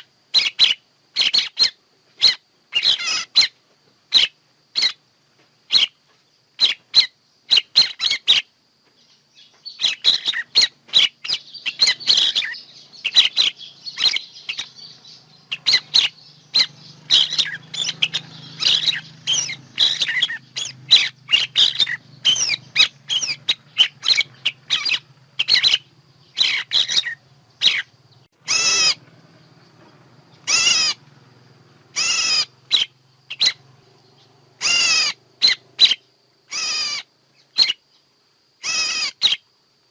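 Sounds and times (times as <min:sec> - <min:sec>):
birds chirping and whistling: 0:00.0 - 0:05.0, 0:05.7 - 0:38.0, 0:38.6 - 0:39.5.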